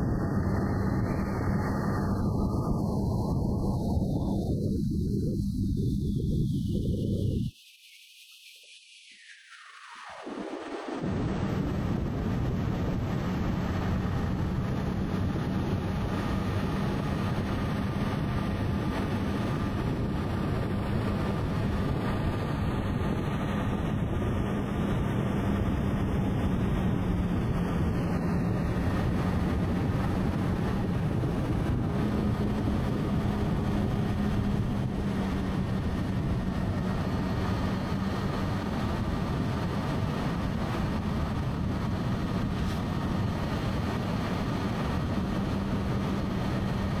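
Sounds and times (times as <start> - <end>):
road and wind noise: 0.0 - 7.5, 9.7 - 47.0.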